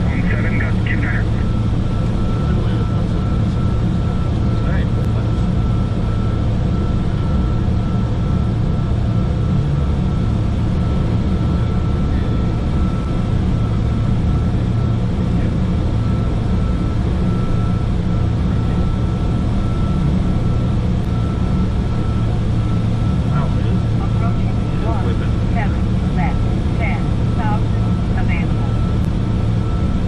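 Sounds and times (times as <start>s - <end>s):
jet engines droning: 0.0s - 30.0s.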